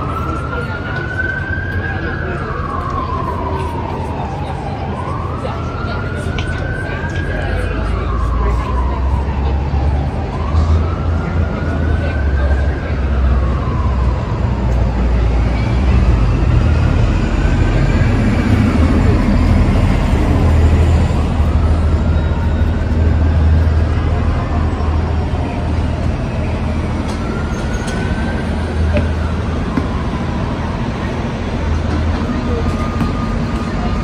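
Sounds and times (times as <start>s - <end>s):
traffic drone: 0.0s - 34.0s.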